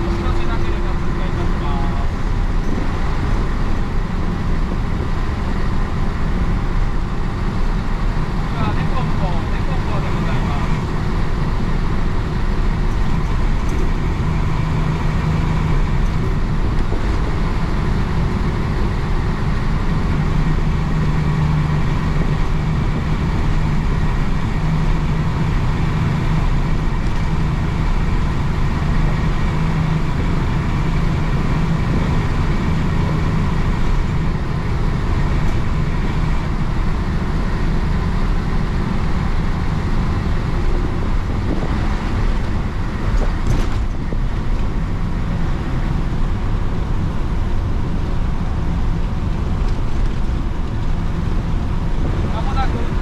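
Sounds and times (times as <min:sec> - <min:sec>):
diesel bus engine running: 0:00.0 - 0:53.0
road noise: 0:00.0 - 0:53.0.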